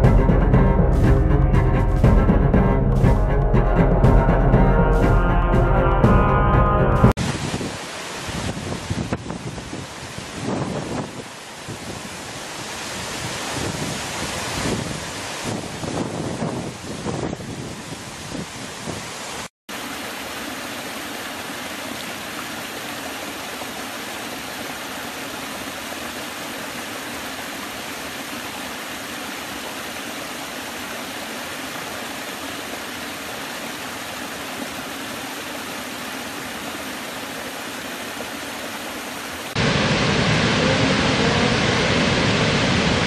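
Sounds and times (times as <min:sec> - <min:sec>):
waterfall rushing: 0:02.8 - 0:43.0
stream splashing over rocks: 0:07.2 - 0:43.0.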